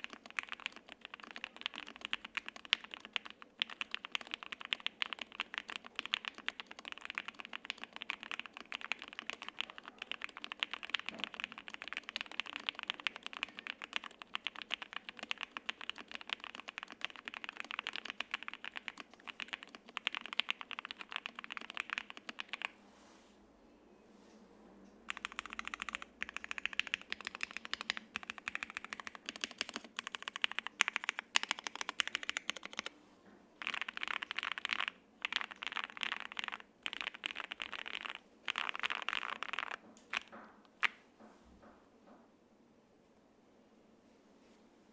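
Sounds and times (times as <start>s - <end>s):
typing on mechanical keyboard: 0.0s - 22.7s, 25.1s - 32.9s, 33.6s - 41.0s.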